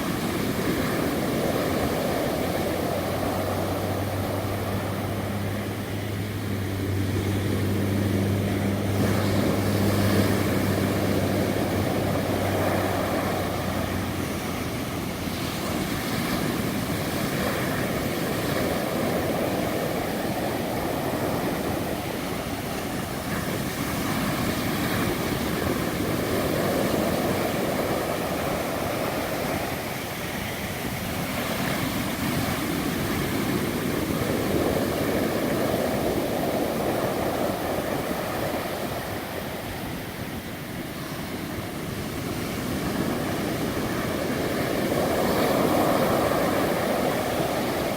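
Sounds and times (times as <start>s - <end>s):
low engine hum: 0.0s - 47.9s
ocean waves rushing: 0.0s - 47.9s.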